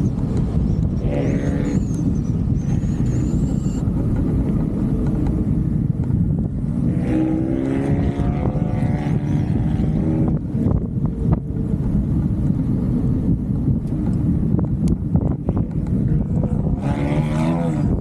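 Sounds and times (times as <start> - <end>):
engine drone: 0.0 - 18.0
vehicle rumbling in motion: 0.0 - 18.0
wind on microphone: 0.0 - 18.0.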